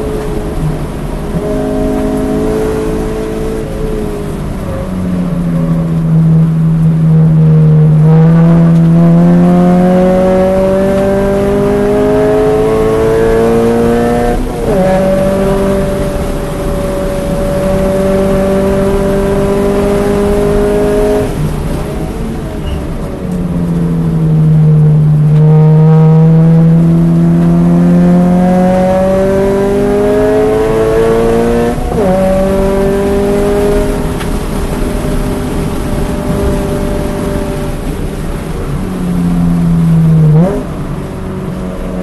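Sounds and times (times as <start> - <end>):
car engine accelerating hard: 0.0 - 42.0.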